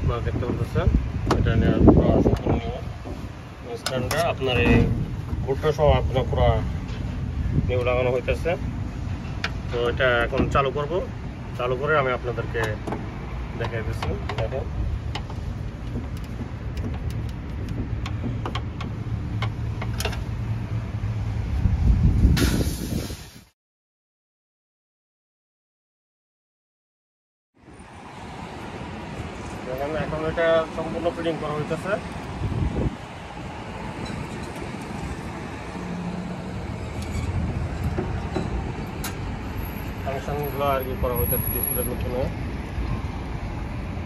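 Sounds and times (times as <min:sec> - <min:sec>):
rumble of passing vehicles: 0:00.0 - 0:23.4, 0:27.6 - 0:44.0.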